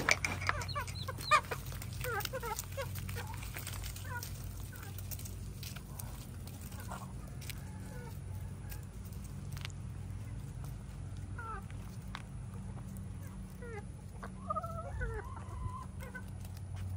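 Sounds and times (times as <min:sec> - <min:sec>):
hens clucking softly: 0:00.0 - 0:16.9.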